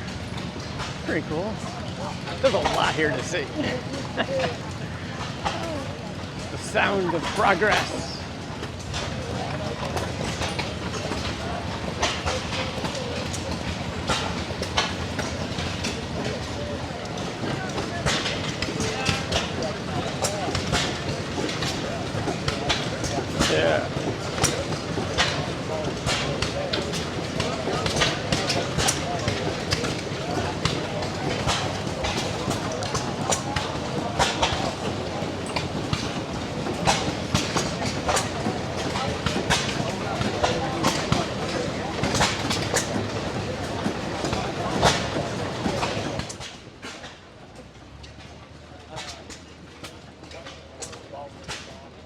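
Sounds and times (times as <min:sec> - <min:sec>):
old gas engines clattering: 0:00.0 - 0:52.0.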